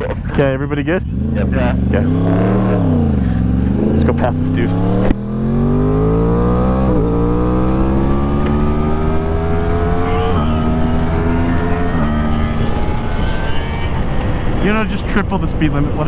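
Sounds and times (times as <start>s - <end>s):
motorcycle engine accelerating: 0.3s - 14.8s.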